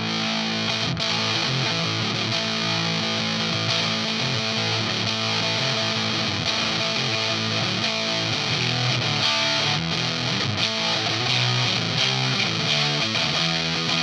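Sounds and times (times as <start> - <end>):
fuzz electric guitar notes: 0.0 - 14.0.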